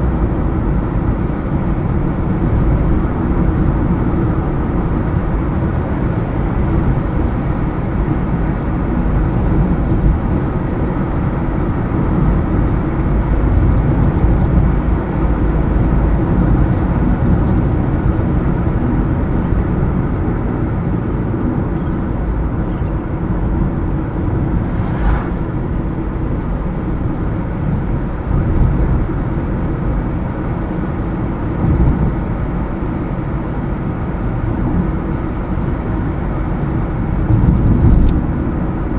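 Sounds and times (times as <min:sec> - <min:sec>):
car engine hum: 0:00.0 - 0:38.9.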